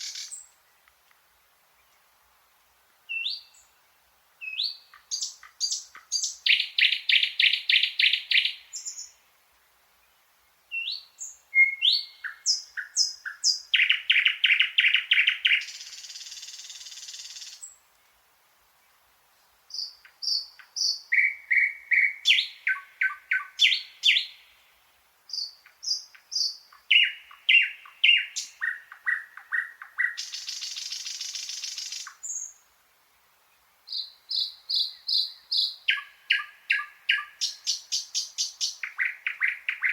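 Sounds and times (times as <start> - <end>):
nightingale singing: 0.0 - 1.0, 3.1 - 9.3, 10.0 - 17.9, 19.7 - 32.8, 33.5 - 39.9.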